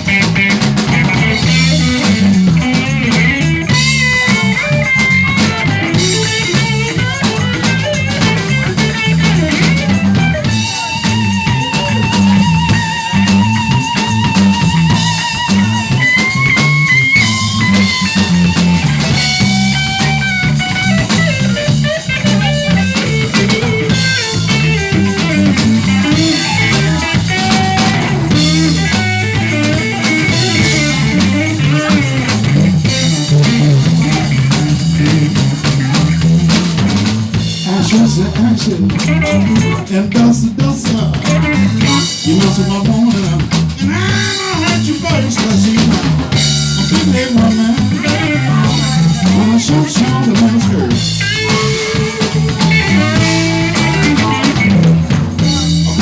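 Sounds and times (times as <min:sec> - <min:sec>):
blues band playing: 0:00.0 - 0:56.0
electric guitar lead: 0:00.0 - 0:56.0.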